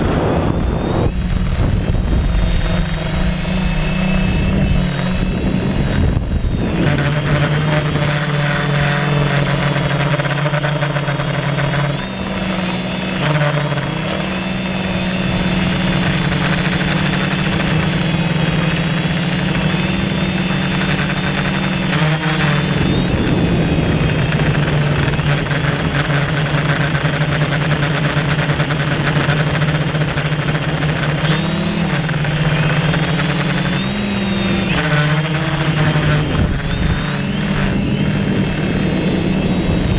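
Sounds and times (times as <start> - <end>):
drone propellers buzzing: 0.0 - 39.9
thin high whine: 0.0 - 39.9.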